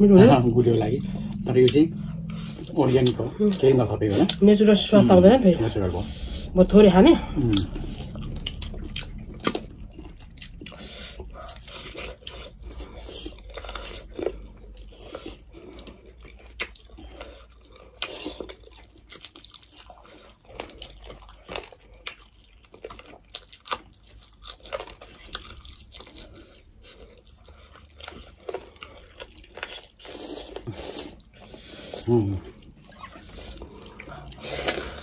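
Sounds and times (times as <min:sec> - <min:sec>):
chewing and lip-smacking: 0:00.8 - 0:05.9, 0:07.5 - 0:35.0.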